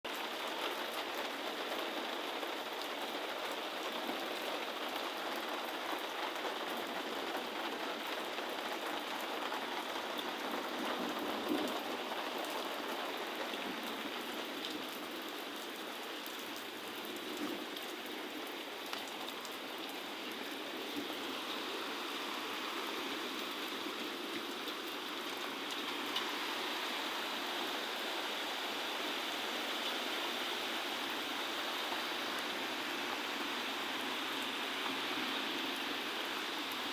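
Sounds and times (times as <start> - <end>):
heavy rain on ground: 0.1 - 36.9.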